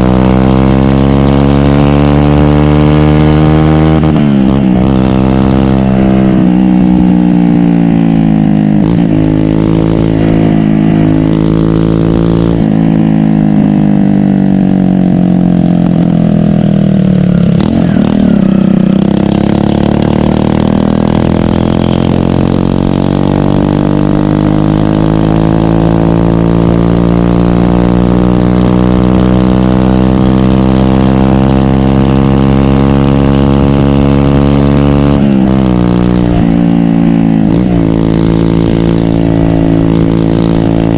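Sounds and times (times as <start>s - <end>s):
loud motorcycle engine: 0.0s - 40.9s.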